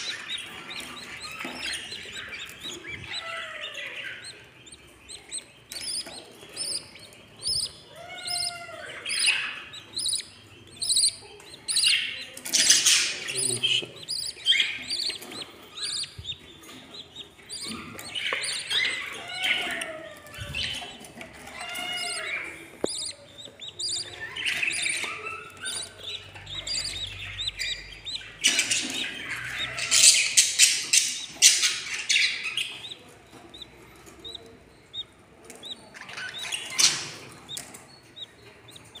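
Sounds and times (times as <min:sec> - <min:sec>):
bird chicks chirping: 0:00.0 - 0:39.0.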